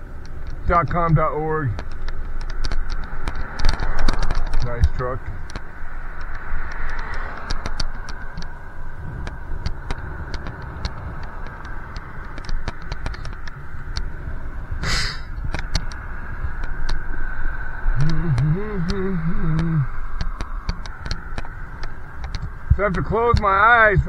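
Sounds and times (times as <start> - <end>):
bicycle clicks and rattles: 0.0 - 14.3, 15.2 - 23.9
wind and road rumble: 0.0 - 24.0.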